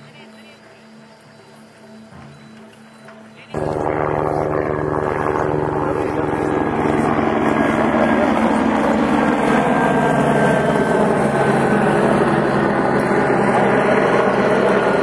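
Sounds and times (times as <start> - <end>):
engine drone with steady tones: 0.0 - 15.0.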